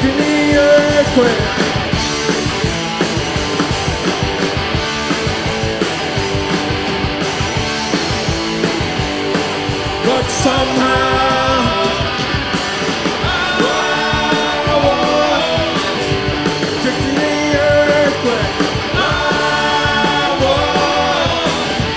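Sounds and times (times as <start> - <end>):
bass guitar: 0.0 - 21.9
distorted electric guitars: 0.0 - 21.9
drum kit beat: 0.0 - 21.9.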